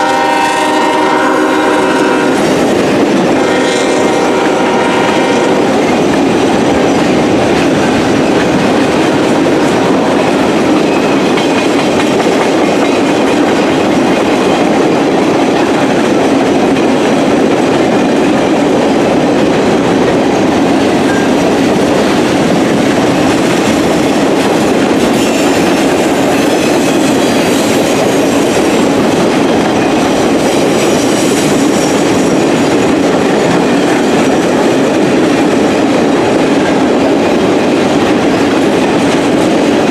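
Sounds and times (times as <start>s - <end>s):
freight train passing: 0.0s - 39.9s
wheels clacking over rail joints: 4.2s - 39.9s.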